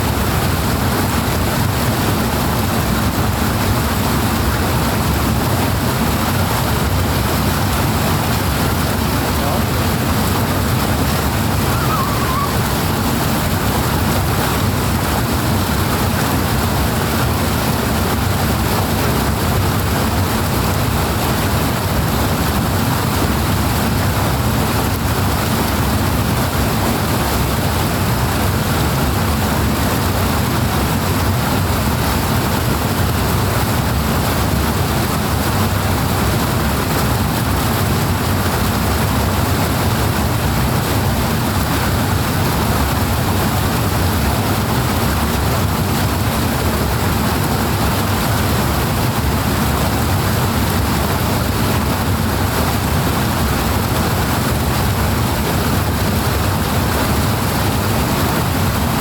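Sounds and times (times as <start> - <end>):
flowing water roar: 0.0 - 59.0.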